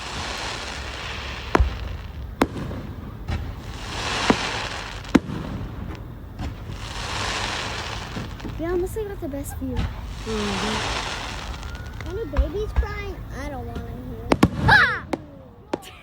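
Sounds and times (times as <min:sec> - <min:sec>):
crackling hiss of bursting shells: 0:00.0 - 0:16.0
fireworks bangs: 0:00.0 - 0:16.0.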